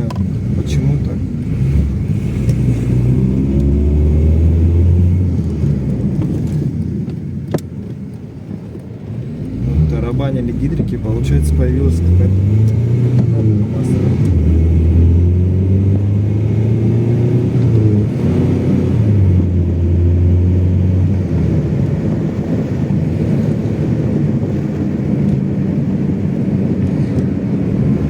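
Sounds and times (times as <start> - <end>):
car engine running from inside: 0.0 - 28.0
road noise: 0.0 - 28.0.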